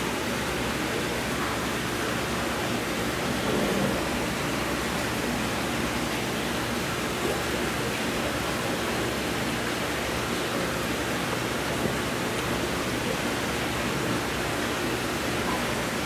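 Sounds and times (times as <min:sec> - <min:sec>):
rushing water in fish tank: 0:00.0 - 0:16.0.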